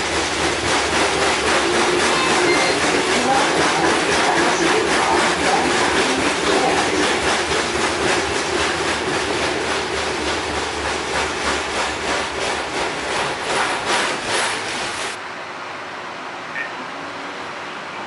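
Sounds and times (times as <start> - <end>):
streetcar wheels on rails: 0.0 - 18.0.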